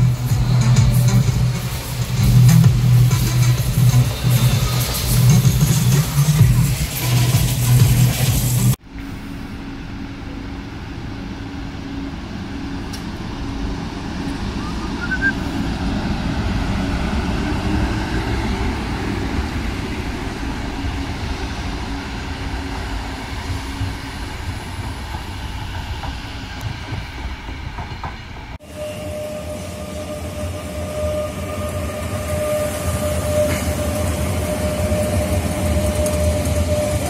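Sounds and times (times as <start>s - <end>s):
passenger train passing: 0.0s - 37.0s.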